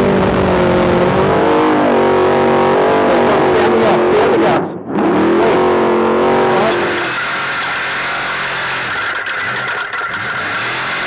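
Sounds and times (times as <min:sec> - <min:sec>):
noisy rush: 0:00.0 - 0:11.0
race engine revving: 0:00.0 - 0:11.0.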